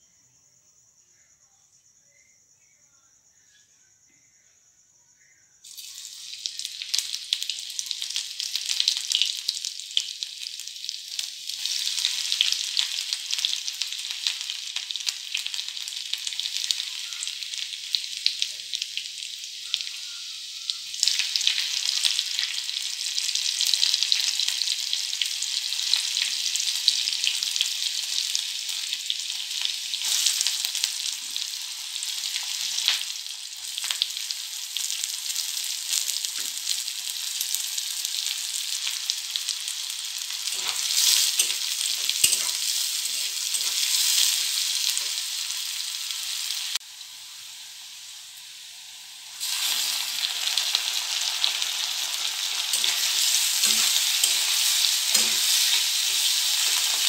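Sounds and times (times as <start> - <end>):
food sizzling in hot oil: 5.6 - 57.0.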